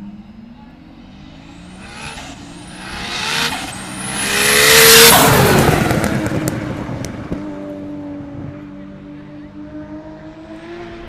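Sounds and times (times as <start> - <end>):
car accelerating hard past: 0.8 - 11.0.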